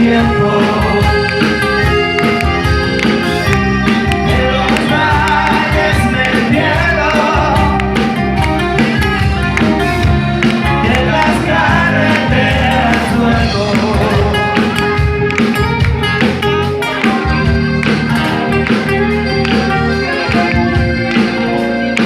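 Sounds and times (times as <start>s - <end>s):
pop-rock band music: 0.0s - 22.0s.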